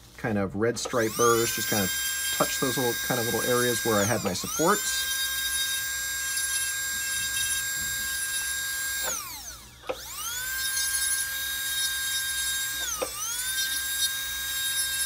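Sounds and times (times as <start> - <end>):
dental handpiece high whine: 0.9 - 15.0.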